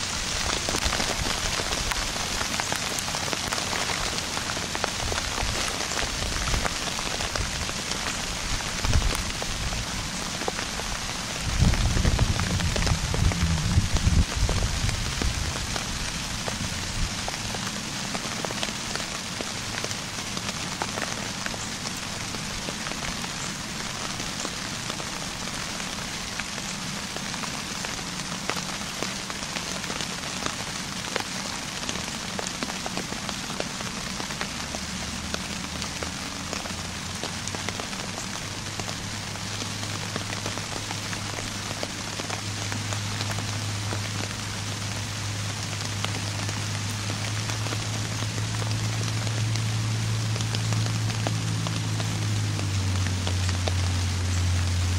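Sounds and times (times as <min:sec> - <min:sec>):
rain falling on leaves: 0:00.0 - 0:54.9.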